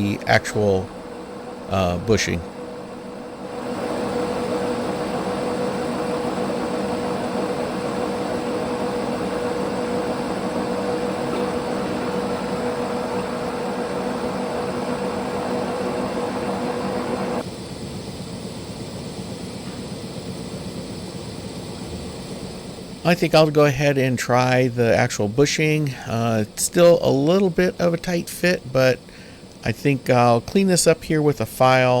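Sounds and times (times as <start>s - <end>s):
metal lathe humming: 0.0s - 17.5s, 21.0s - 32.0s
lathe whine: 0.0s - 32.0s.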